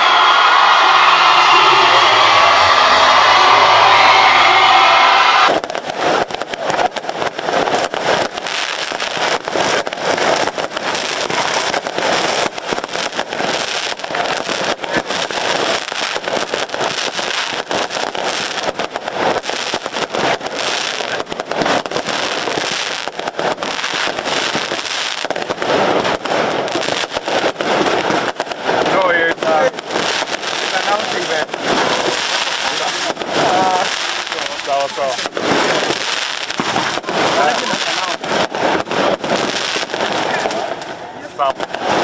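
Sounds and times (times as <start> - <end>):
fireworks crackling and popping: 0.0 - 42.0.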